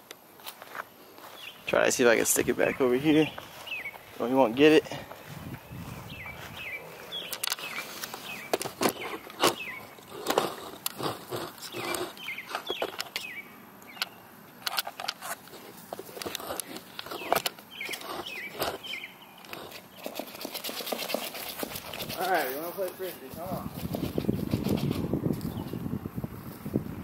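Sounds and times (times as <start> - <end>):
small birds chirping: 1.0 - 14.4, 15.6 - 26.1.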